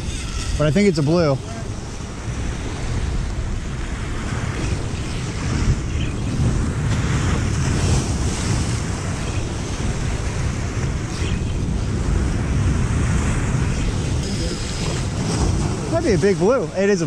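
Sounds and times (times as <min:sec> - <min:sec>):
ocean surf breaking on rocks: 0:00.0 - 0:17.0
wind buffeting microphone: 0:00.0 - 0:17.0.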